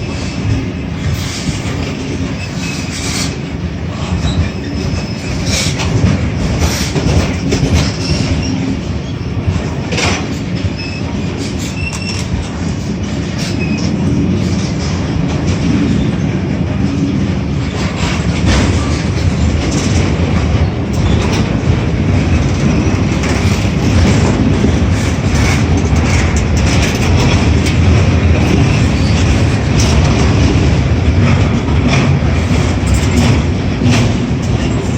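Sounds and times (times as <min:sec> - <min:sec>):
freight train rumbling past: 0:00.0 - 0:34.9
wheels clicking over rail joints: 0:04.0 - 0:16.2, 0:17.1 - 0:34.9.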